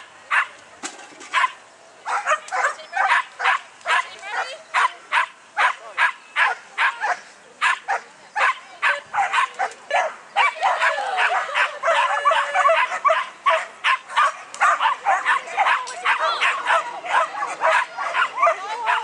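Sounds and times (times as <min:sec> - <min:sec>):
dogs barking excitedly: 0:00.3 - 0:00.6, 0:01.3 - 0:19.0.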